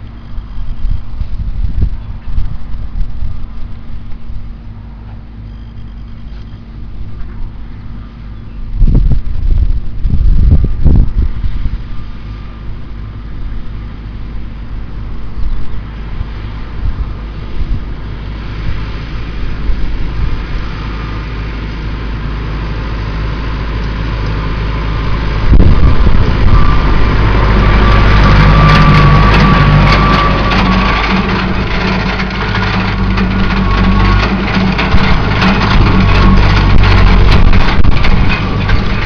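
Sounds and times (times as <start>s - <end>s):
wind buffeting microphone: 0.0s - 4.7s, 8.6s - 21.1s, 23.4s - 39.0s
high whine: 0.0s - 39.0s
tractor engine running: 0.0s - 39.0s.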